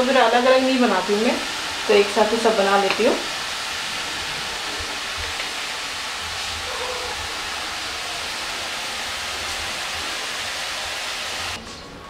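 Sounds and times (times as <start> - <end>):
vegetables sizzling in hot oil: 0.0 - 11.6.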